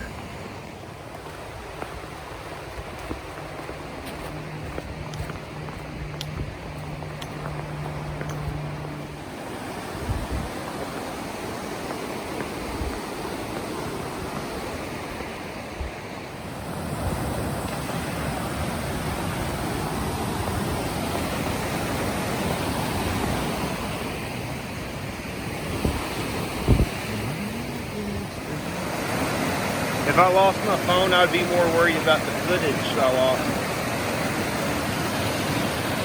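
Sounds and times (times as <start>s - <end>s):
creek rushing over rocks: 0.0s - 36.0s.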